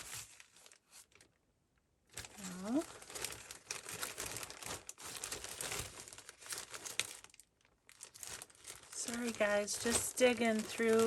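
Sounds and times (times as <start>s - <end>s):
paper and bags rustling: 0.0s - 1.3s, 2.1s - 11.0s.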